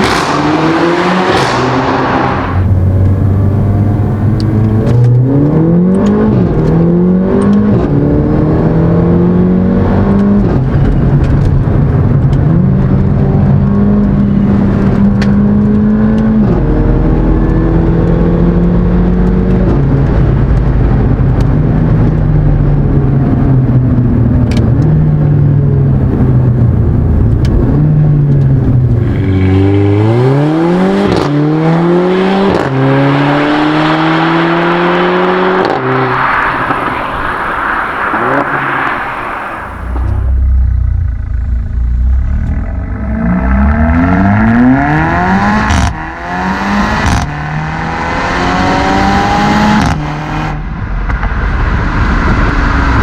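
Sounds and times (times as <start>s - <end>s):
car engine accelerating through gears: 0.0s - 53.0s.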